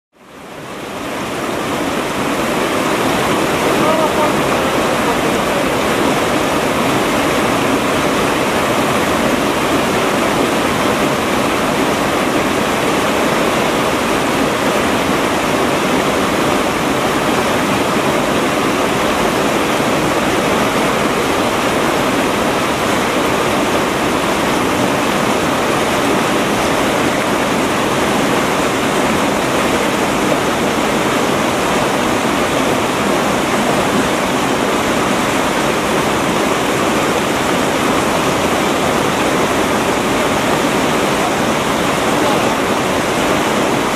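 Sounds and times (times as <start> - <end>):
river water rushing over rapids: 0.2 - 43.9.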